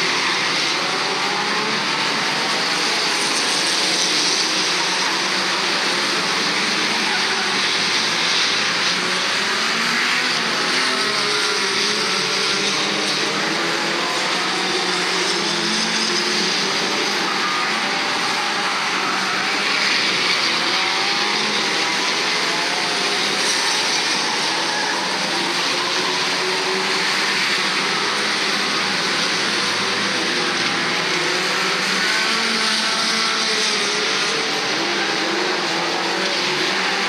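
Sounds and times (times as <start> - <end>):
race car engines: 0.0 - 37.0.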